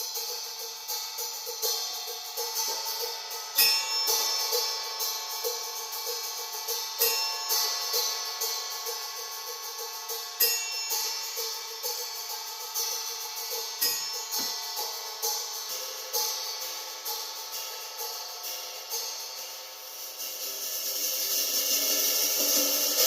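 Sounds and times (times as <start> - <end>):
cymbals played with brushes: 0.0 - 23.0.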